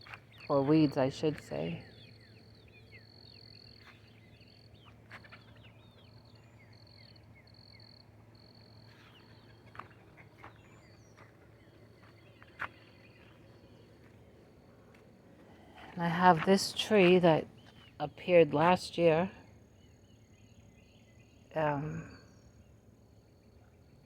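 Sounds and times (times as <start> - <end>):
birds chirping softly: 0.0 - 24.0.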